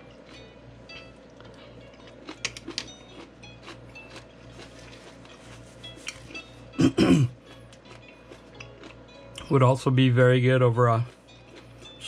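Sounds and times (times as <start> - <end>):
person chewing crunchy food: 0.0 - 9.1, 11.0 - 12.0.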